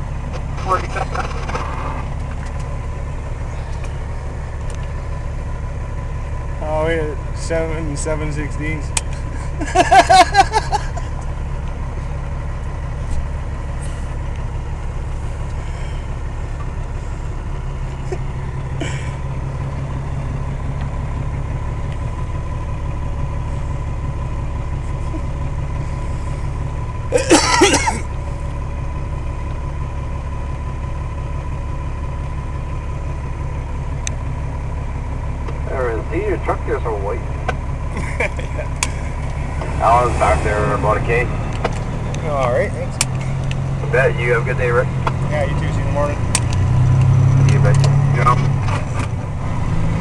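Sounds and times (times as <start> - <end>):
truck diesel engine droning: 0.0 - 50.0.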